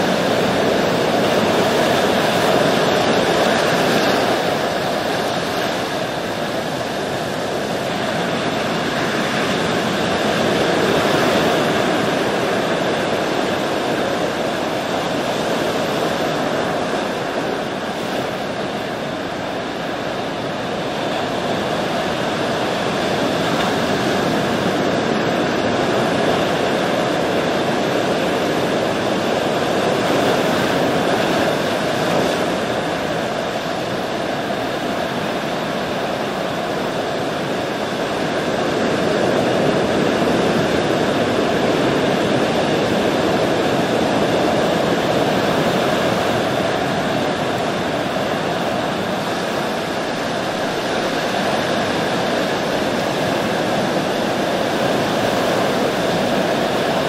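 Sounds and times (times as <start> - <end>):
waves breaking: 0.0 - 57.0.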